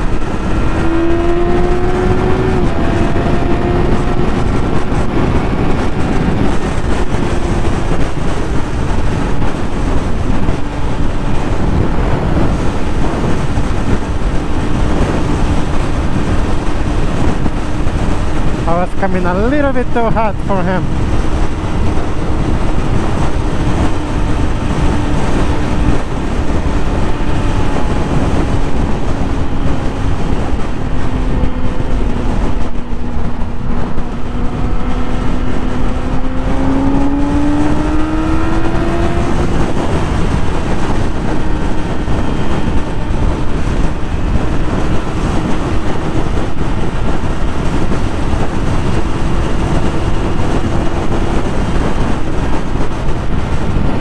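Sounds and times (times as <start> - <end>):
motorcycle engine at high revs: 0.0 - 54.0
wind and road rush: 0.0 - 54.0.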